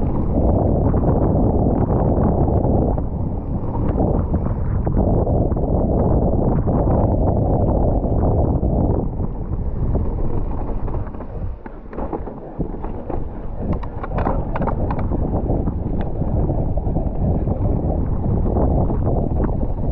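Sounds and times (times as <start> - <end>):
bike clicks and rattles: 0.0 - 19.9
bike tyres rumbling on dirt: 0.0 - 19.9
wind on microphone: 0.0 - 19.9.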